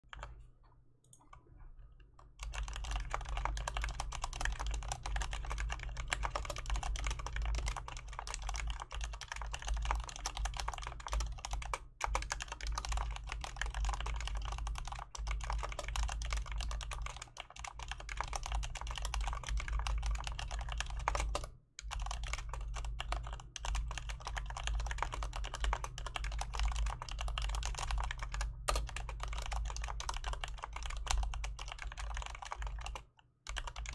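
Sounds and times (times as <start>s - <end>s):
mechanical keyboard typing: 2.4s - 33.9s.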